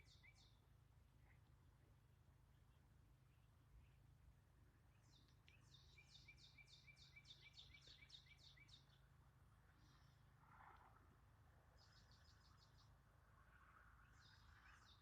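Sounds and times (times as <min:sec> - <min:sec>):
low steady background hum: 0:00.0 - 0:15.0.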